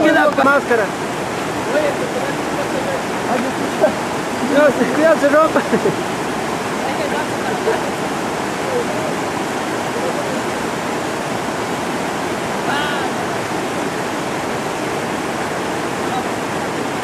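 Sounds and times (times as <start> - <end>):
river rapids roaring: 0.0 - 17.0.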